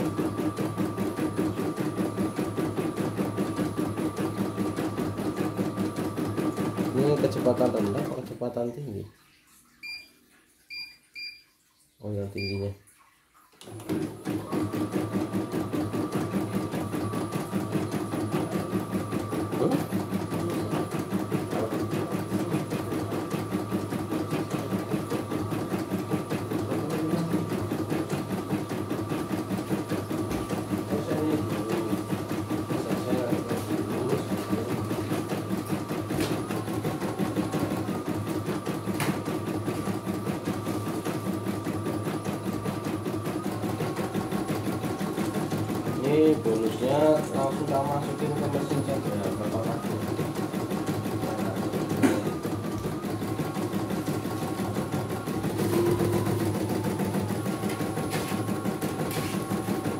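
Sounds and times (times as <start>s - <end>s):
embroidery machine stitching: 0.0s - 8.5s, 13.6s - 59.9s.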